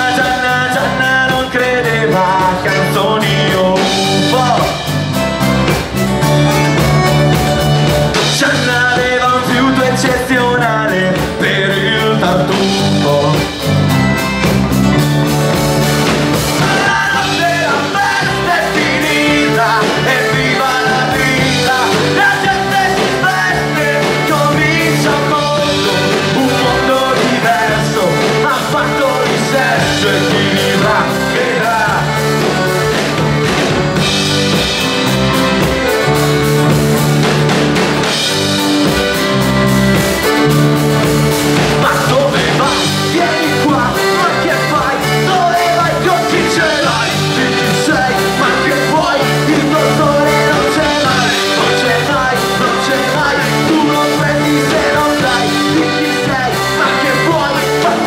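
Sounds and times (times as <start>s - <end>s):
wavering lead melody: 0.0s - 11.0s, 11.9s - 58.0s
accordion: 0.0s - 58.0s
acoustic guitars: 0.0s - 58.0s
drum kit: 0.0s - 58.0s
steady bass line: 0.0s - 58.0s.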